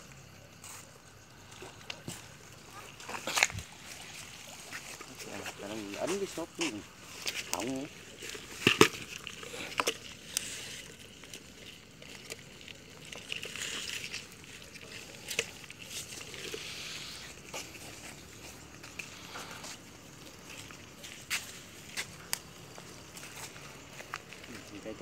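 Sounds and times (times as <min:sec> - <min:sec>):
water sloshing: 0:01.4 - 0:24.4.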